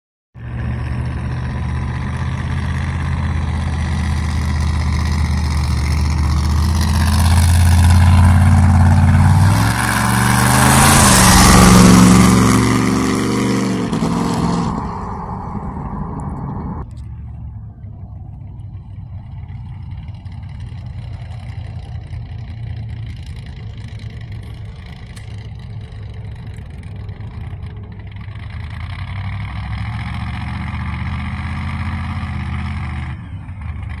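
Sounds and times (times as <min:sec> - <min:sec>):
car engine accelerating: 0:00.4 - 0:34.0
distant car engine running: 0:00.4 - 0:34.0.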